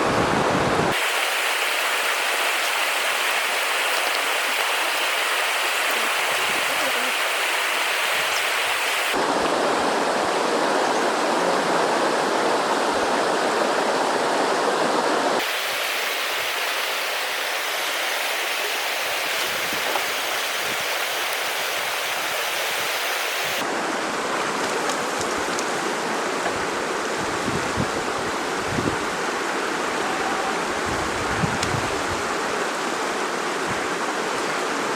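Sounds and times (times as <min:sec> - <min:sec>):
river flowing: 0:00.1 - 0:27.4, 0:28.0 - 0:31.2.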